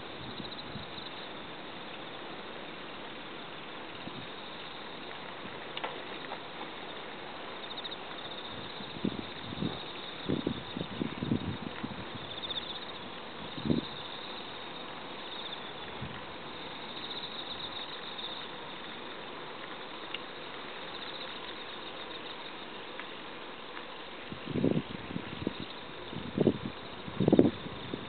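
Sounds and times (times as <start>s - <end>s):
crickets trilling: 0.0s - 28.0s
outdoor ambient hiss: 0.0s - 28.0s.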